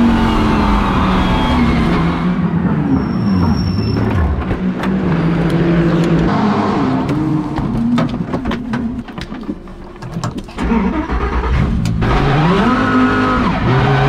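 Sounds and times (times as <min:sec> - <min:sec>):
car engine revving: 0:00.0 - 0:08.9, 0:10.6 - 0:14.0.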